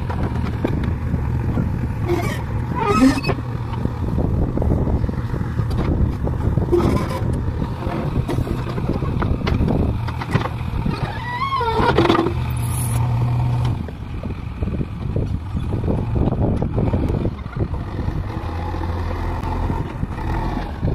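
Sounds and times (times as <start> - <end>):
diesel engine running under load: 0.0 - 20.9.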